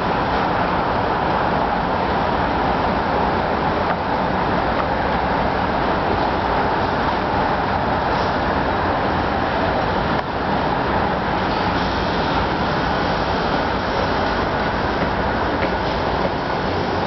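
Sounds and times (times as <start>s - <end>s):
road traffic roar: 0.0s - 17.0s.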